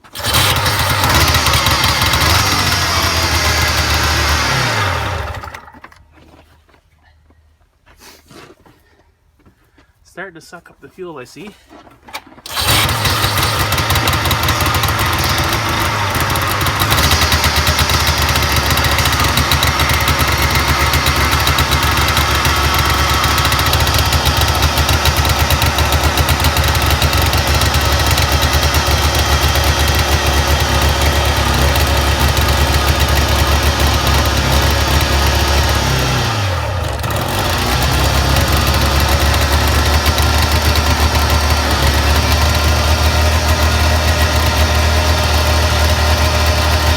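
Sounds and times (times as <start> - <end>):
two-stroke engine running: 0.0 - 5.9, 12.4 - 46.9.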